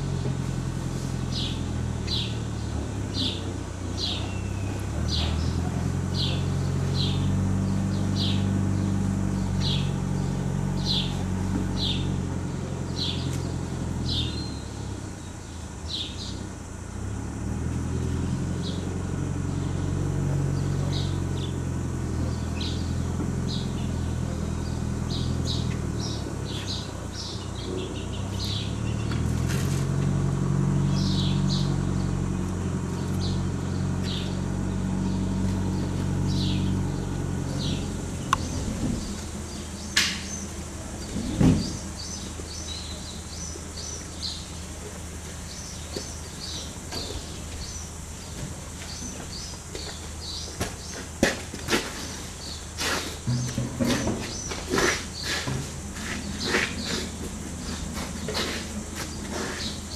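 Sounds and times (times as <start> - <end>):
bird chirping: 1.0 - 16.5, 18.2 - 29.4, 30.7 - 51.1, 52.0 - 59.9.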